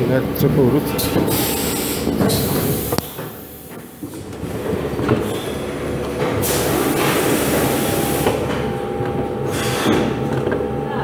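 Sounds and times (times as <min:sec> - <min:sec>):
tray sealer mechanical drone: 0:00.0 - 0:11.0.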